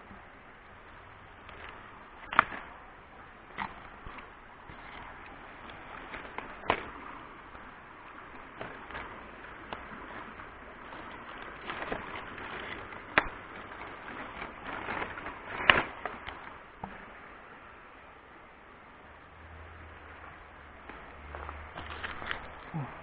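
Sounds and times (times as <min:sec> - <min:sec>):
rustling of leafy plants: 0:00.0 - 0:23.0
steady hiss: 0:00.0 - 0:23.0.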